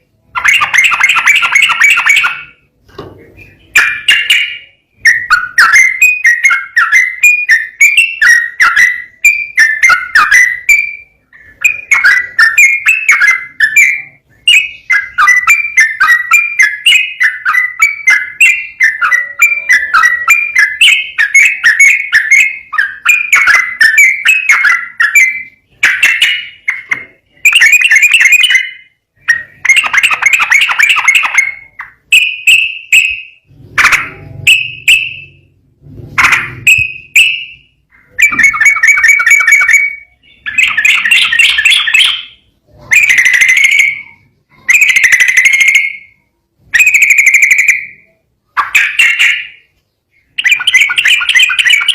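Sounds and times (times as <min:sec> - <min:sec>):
bird singing bubbly whistles: 0:00.4 - 0:02.6, 0:03.4 - 0:35.4, 0:36.3 - 0:51.9.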